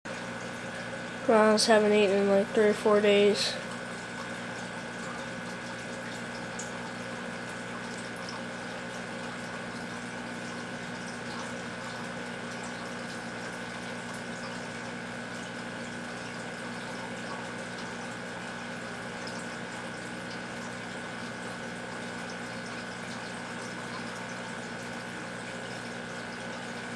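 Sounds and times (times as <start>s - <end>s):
aquarium filter hum: 0.1s - 26.9s
water trickling and bubbling: 0.1s - 26.9s.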